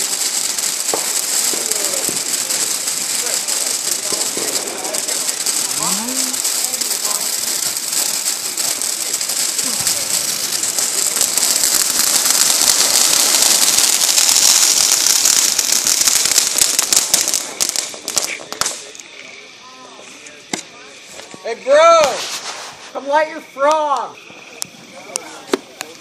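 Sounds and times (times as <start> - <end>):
firework crackling and hissing: 0.0 - 26.0.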